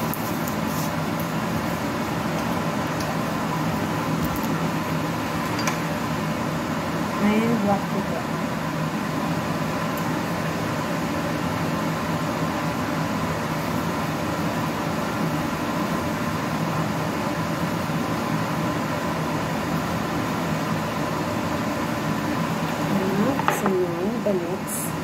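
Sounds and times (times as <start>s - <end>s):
electric fan humming: 0.0s - 25.0s.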